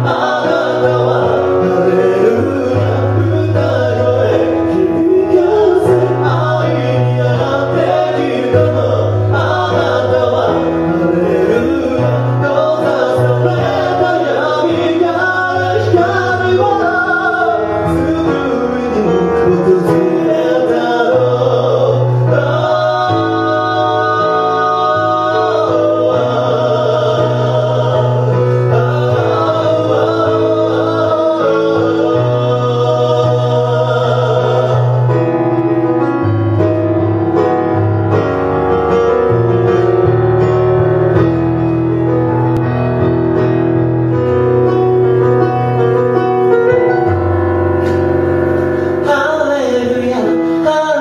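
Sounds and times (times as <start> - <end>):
slow instrumental live music: 0.0 - 51.0.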